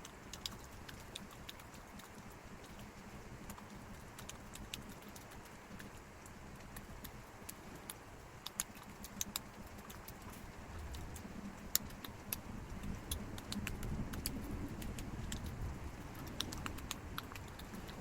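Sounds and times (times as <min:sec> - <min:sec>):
chewing pizza: 0:00.0 - 0:18.0.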